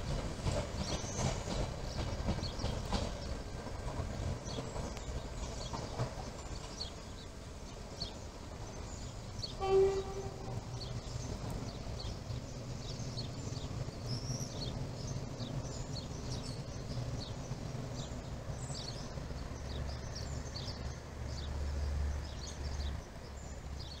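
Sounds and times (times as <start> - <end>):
small birds chirping: 0.4 - 9.6, 10.2 - 24.0.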